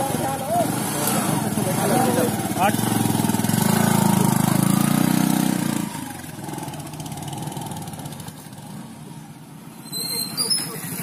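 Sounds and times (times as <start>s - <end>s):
small motorcycle engine: 0.0s - 8.9s.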